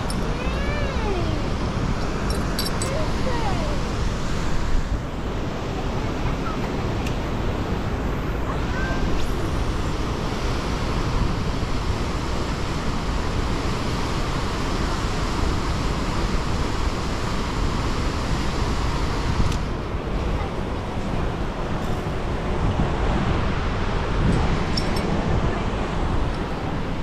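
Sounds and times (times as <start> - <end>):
water rushing through spillway: 0.0 - 27.0.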